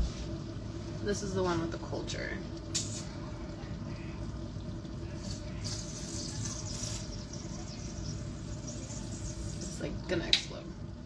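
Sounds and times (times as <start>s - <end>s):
carbonation hissing from bottle: 1.1s - 10.9s.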